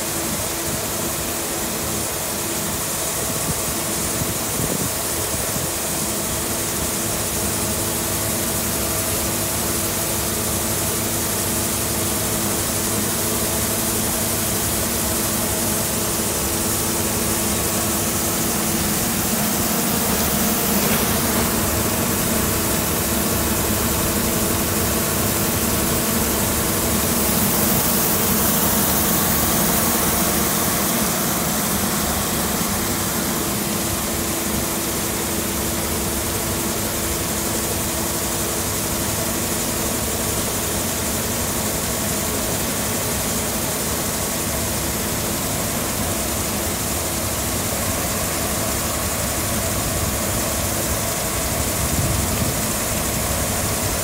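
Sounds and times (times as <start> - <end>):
grain pouring with hiss: 0.0 - 54.0
combine harvester humming: 0.2 - 54.0.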